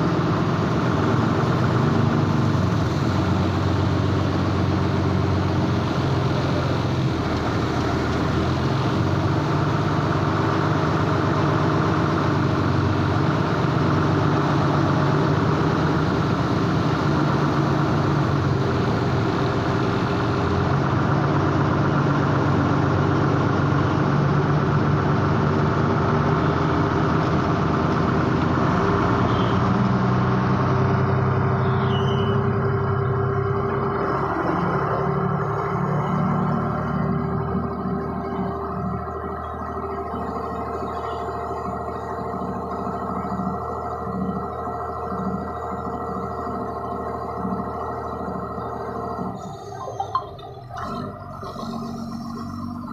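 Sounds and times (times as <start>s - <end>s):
vehicle engine droning: 0.0s - 52.9s.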